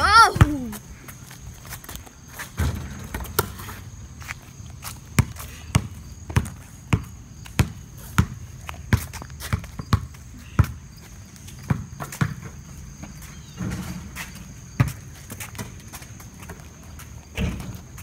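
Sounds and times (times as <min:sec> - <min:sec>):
basketball bouncing on concrete: 0:00.1 - 0:00.8, 0:02.6 - 0:03.9, 0:04.8 - 0:18.0.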